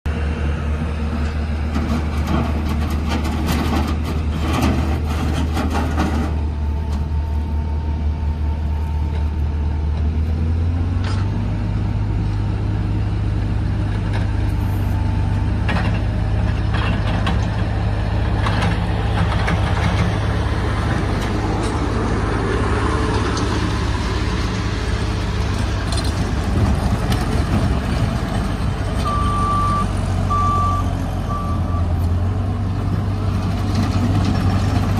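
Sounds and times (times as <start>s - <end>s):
diesel loader engine running: 0.1s - 34.9s.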